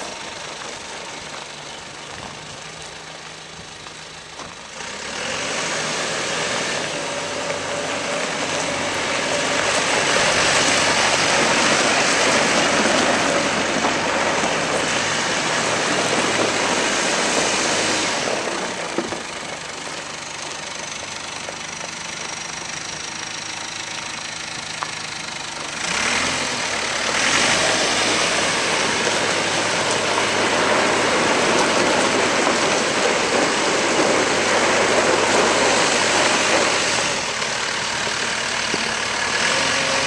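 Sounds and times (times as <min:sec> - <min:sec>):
diesel engine idling and revving: 0:00.0 - 0:40.0.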